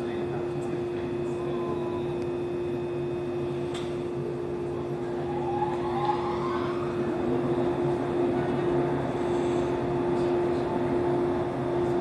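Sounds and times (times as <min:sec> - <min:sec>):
electric train humming: 0:00.0 - 0:12.0
faint rising motor whine: 0:00.9 - 0:12.0.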